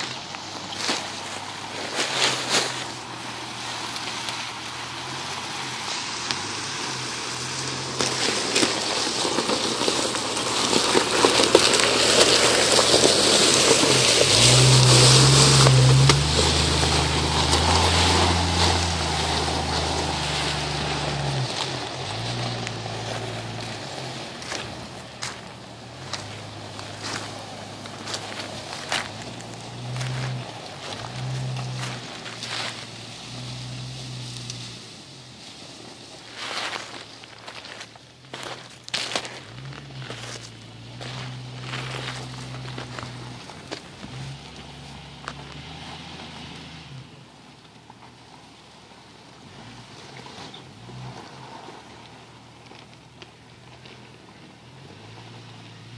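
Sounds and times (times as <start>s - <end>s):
car engine running: 0.0s - 55.9s
tyres on gravel: 0.0s - 55.9s.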